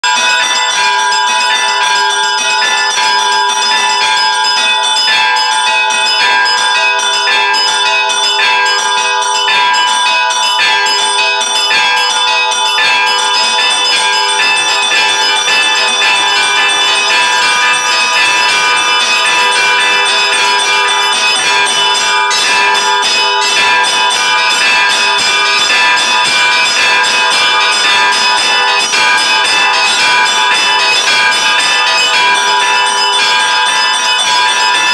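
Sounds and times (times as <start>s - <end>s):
church bells pealing: 0.0s - 34.9s.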